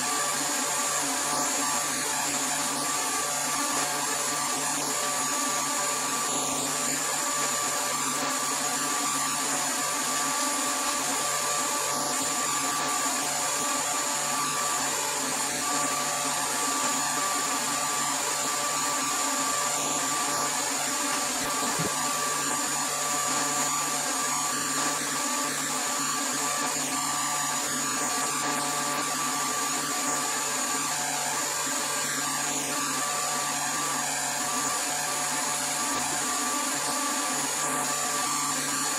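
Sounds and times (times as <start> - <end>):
vacuum pump humming and whining: 0.0 - 38.9.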